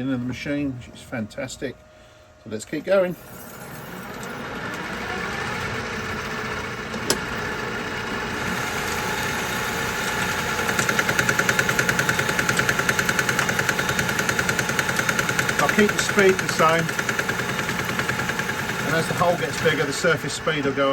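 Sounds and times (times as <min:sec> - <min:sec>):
metal lathe boring steel: 0:02.7 - 0:20.9.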